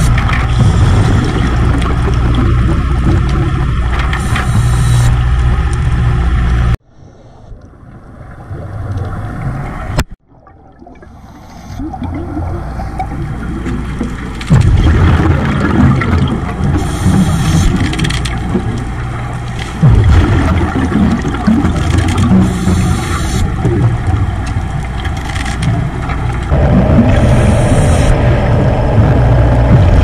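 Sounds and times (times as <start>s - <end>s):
water gurgling: 0.0s - 6.8s, 7.8s - 30.0s
underwater rumble: 0.0s - 30.0s.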